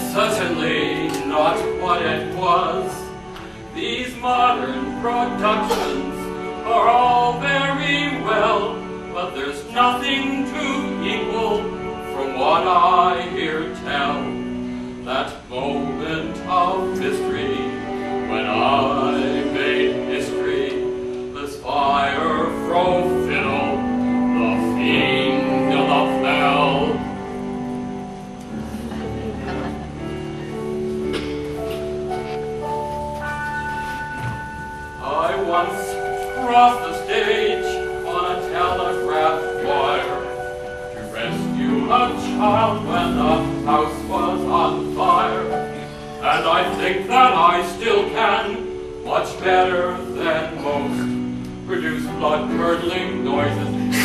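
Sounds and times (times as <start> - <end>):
person singing with vibrato: 0.0 - 27.6, 32.5 - 54.0
sustained musical accompaniment: 0.0 - 54.0.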